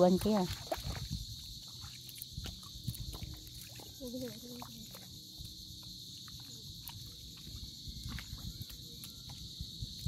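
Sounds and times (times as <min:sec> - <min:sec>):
footsteps squelching through mud: 0:00.0 - 0:10.0.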